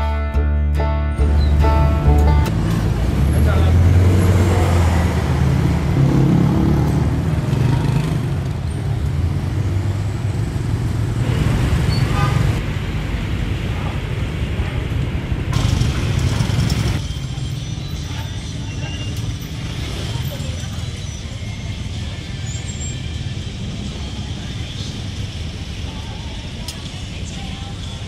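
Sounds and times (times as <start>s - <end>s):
bus engine humming: 0.0s - 28.0s
passing cars and motorcycles: 1.3s - 28.0s.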